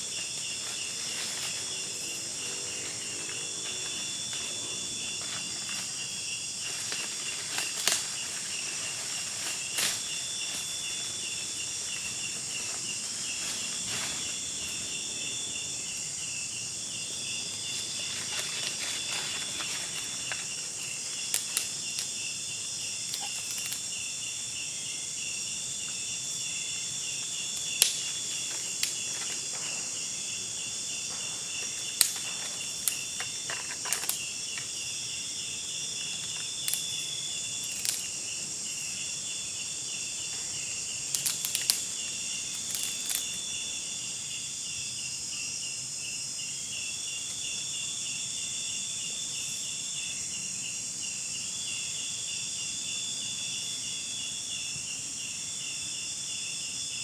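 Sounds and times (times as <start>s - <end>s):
crickets chirping: 0.0s - 57.0s
high insect whine: 0.0s - 57.0s.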